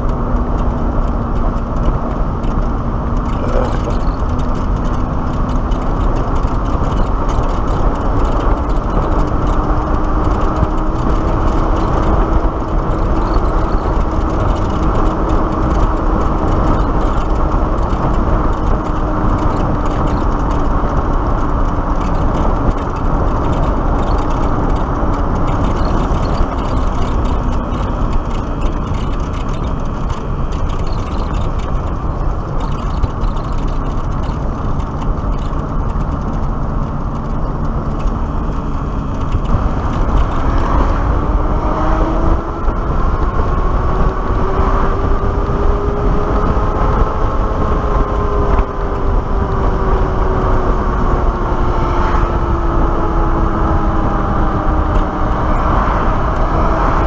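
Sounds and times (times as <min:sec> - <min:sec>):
tyre noise on asphalt: 0:00.0 - 0:57.0
wind rushing over microphone: 0:00.0 - 0:57.0.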